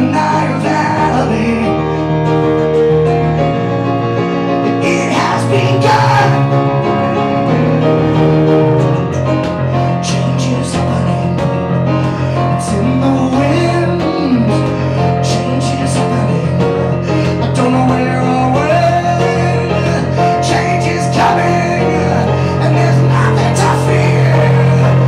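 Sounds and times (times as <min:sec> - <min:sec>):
man singing: 0:00.0 - 0:02.1, 0:04.7 - 0:06.8, 0:09.2 - 0:25.0
digital piano chords: 0:00.0 - 0:25.0.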